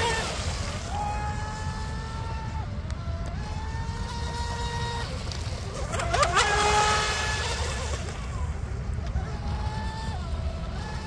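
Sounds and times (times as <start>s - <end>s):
model boat motor whining: 0.0s - 11.0s.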